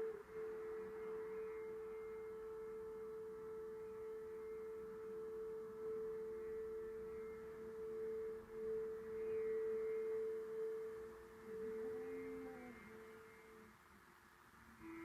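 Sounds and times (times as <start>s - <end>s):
steady pure ringing tone: 0.0s - 15.0s.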